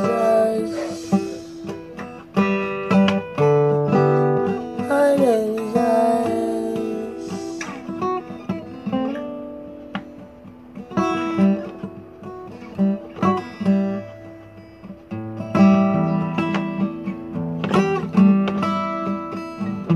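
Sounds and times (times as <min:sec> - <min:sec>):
acoustic guitar: 0:00.0 - 0:19.9.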